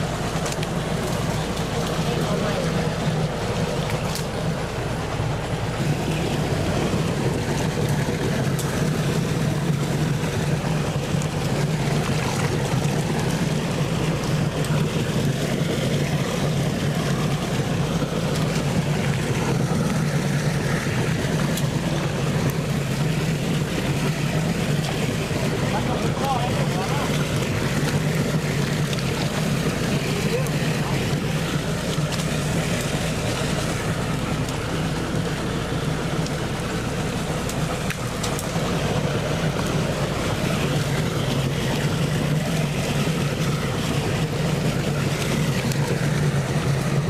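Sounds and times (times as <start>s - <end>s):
engine-driven water pump: 0.0s - 47.0s.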